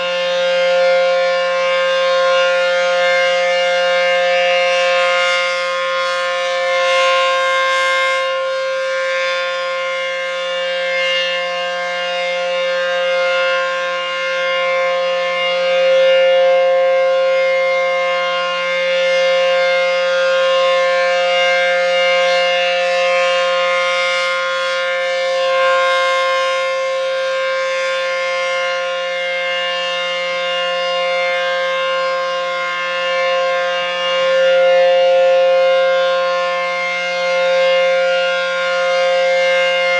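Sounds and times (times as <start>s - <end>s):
storm siren steady tone: 0.0s - 39.9s.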